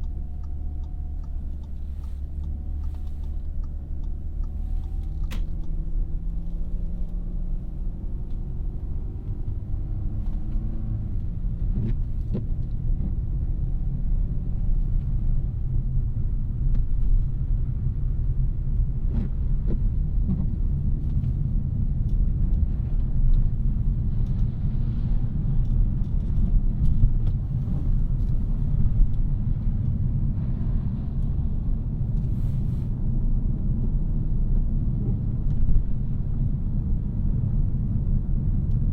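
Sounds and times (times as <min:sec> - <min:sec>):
engine road and tyre rumble: 0:00.0 - 0:38.9.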